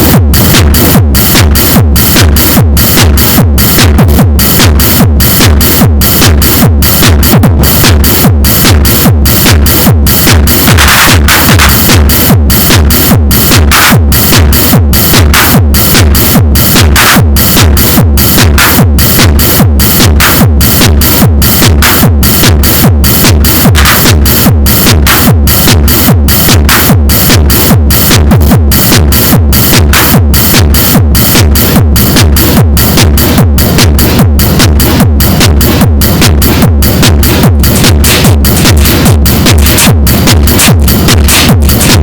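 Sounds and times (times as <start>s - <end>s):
synthesizer playing techno: 0.0s - 42.0s.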